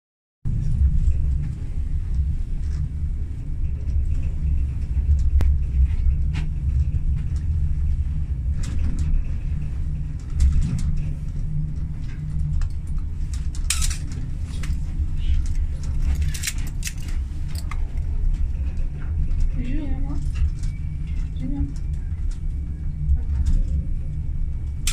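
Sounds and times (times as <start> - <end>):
funicular car rumbling: 0.5 - 24.9
light clicks and rattles: 0.6 - 24.9.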